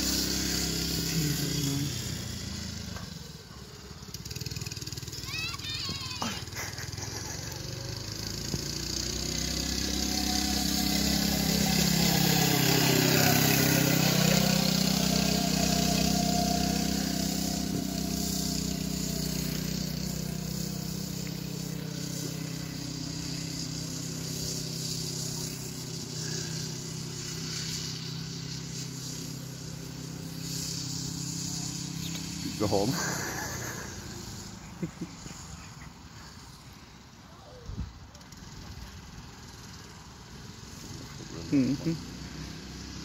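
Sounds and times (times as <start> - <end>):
go-kart engine passing: 0.0 - 43.0.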